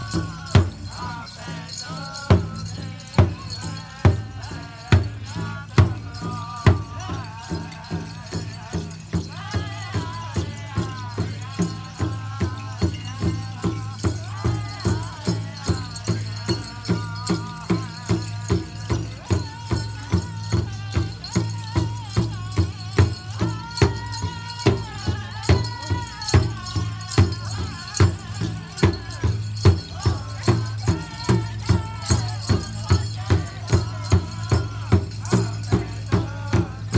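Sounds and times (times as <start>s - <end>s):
drum beating: 0.0s - 36.9s
person singing: 0.0s - 36.9s.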